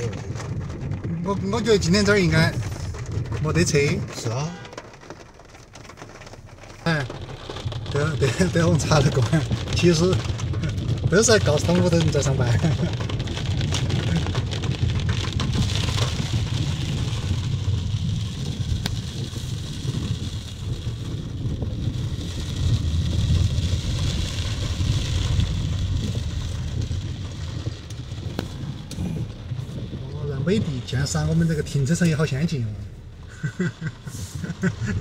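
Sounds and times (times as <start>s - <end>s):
car engine and tyres rumble: 0.0s - 35.0s
heavy rain on a car: 0.0s - 35.0s.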